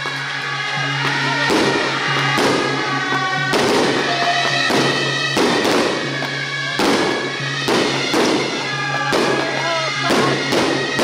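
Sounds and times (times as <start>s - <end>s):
festive ceremonial music: 0.0s - 11.0s.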